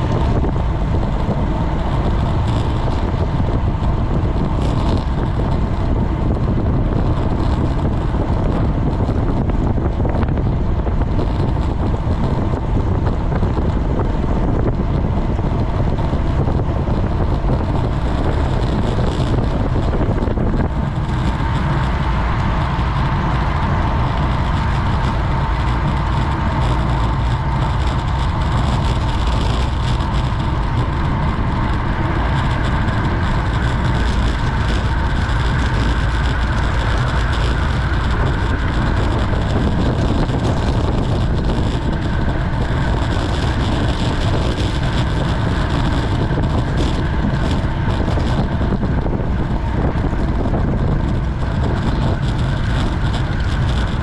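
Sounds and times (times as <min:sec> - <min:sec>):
tyre and road noise: 0:00.0 - 0:54.0
wind buffeting microphone: 0:00.0 - 0:54.0.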